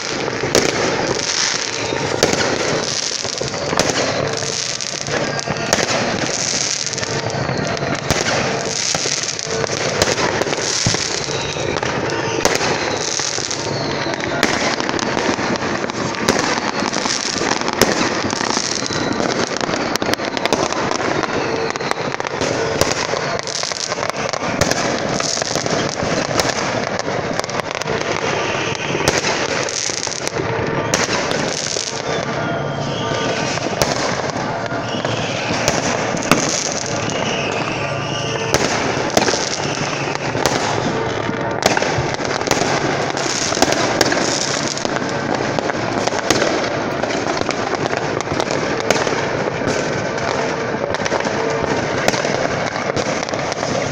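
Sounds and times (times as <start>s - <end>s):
firecracker bangs: 0.0s - 53.9s
fireworks crackling: 0.0s - 53.9s.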